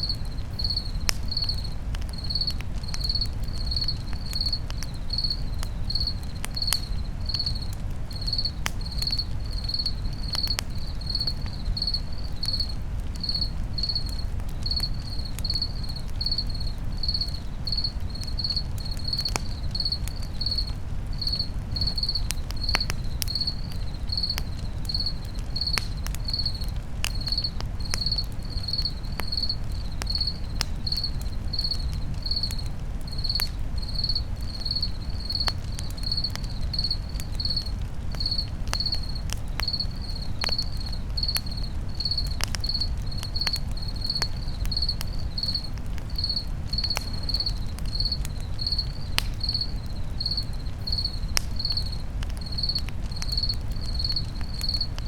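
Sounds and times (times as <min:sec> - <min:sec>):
campfire crackling: 0:00.0 - 0:55.0
crickets chirping: 0:00.0 - 0:55.0.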